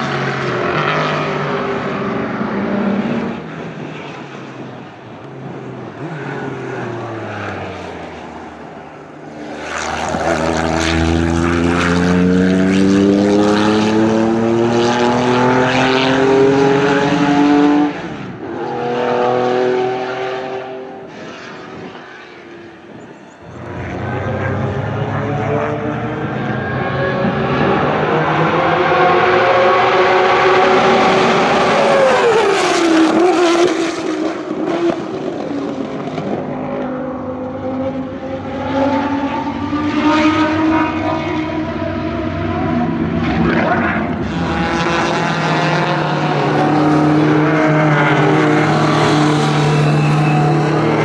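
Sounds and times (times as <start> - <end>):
racing car engines accelerating: 0.0 - 51.0.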